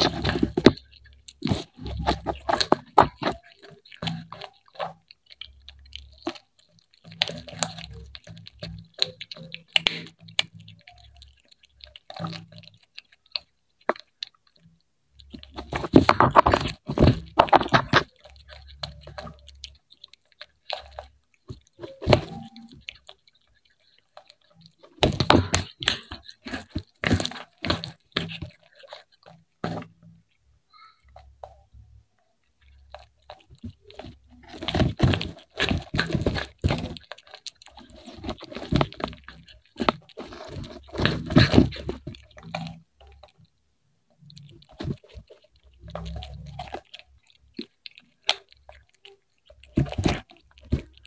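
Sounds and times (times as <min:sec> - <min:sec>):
cat crunching fried fish: 0:00.0 - 0:51.0.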